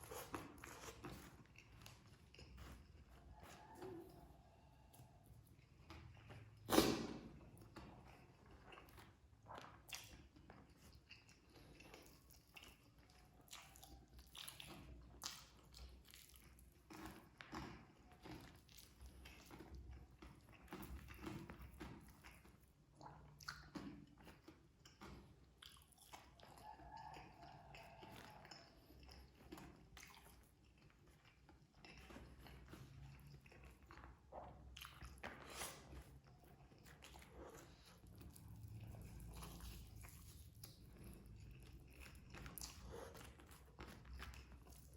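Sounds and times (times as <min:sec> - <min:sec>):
close-up chewing: 0:00.0 - 0:44.9.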